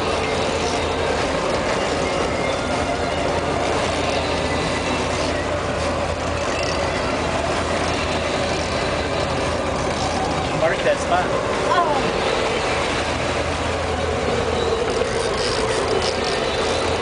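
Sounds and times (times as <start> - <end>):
boat engine humming: 0.0 - 17.0
churning wake rushing: 0.0 - 17.0.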